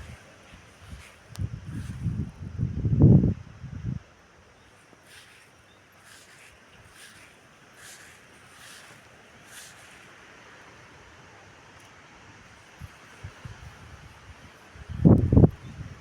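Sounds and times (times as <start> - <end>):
wind rustling foliage: 0.0 - 16.0.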